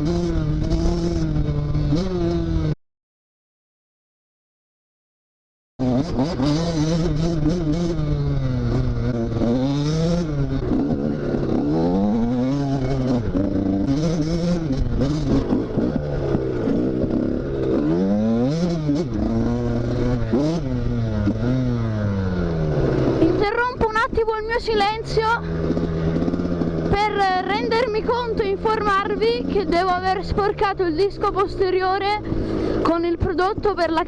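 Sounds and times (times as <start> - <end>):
motorcycle engine revving: 0.0 - 2.8, 5.8 - 34.0.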